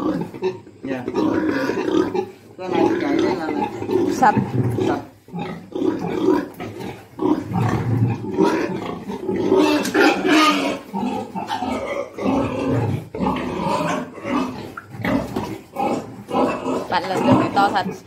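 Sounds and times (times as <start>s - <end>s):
pigs grunting: 0.0s - 18.0s.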